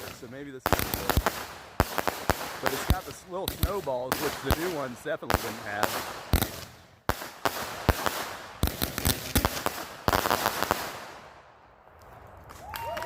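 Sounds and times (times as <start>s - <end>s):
firework bangs: 0.0s - 11.4s
firework hissing crackle: 0.0s - 11.4s.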